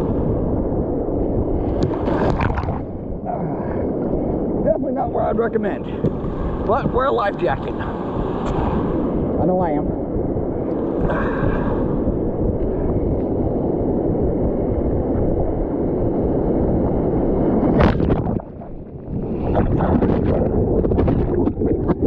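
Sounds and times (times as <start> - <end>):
surf: 0.0 - 22.0
wind on microphone: 0.0 - 22.0.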